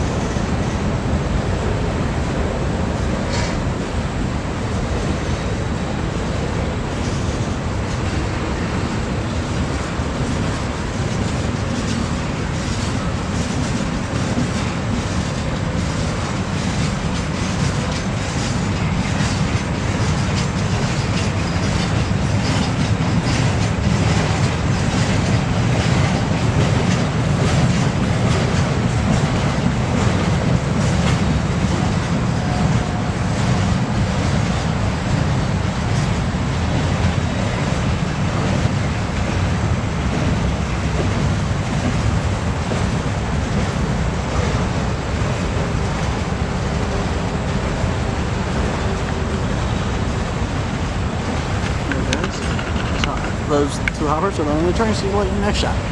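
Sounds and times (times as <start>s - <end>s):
freight train cars rolling: 0.0s - 55.9s
wheels clicking over rail joints: 9.6s - 55.9s.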